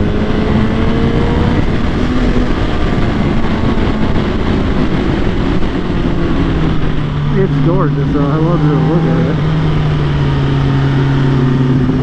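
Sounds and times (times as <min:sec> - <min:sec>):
faint motorcycle engine: 0:00.0 - 0:12.0
wind rushing on microphone: 0:00.0 - 0:12.0.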